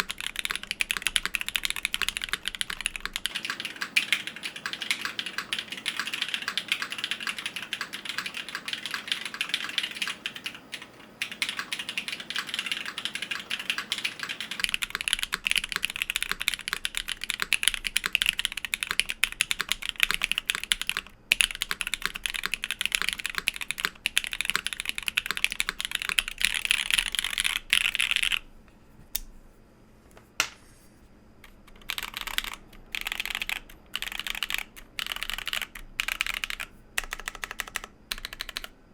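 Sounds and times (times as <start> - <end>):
mechanical keyboard typing: 0.0 - 28.4, 31.4 - 38.8.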